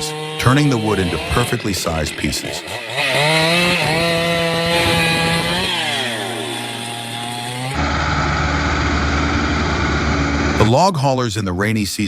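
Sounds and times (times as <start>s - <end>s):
chainsaw cutting log: 0.0s - 10.7s
heavy engine running: 0.4s - 10.7s.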